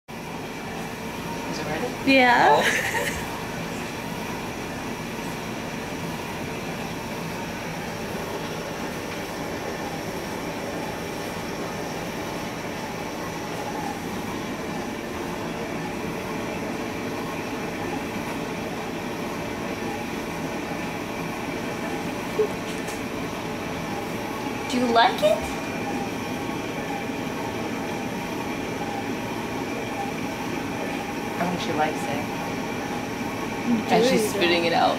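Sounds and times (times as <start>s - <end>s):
mechanical hum with whine: 0.1s - 34.9s.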